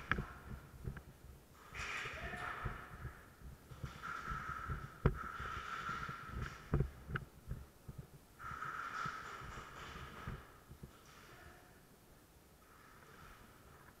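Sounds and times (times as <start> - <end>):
footsteps: 0.0 - 11.4.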